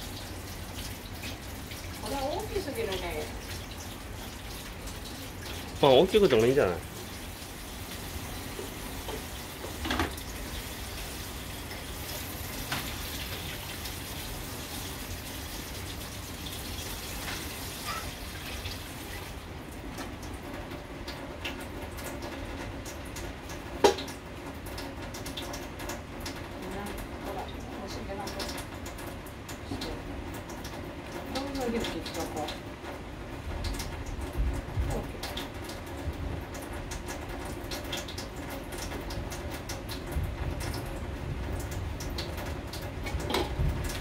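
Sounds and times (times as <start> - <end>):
water running from a tap: 0.0 - 44.0.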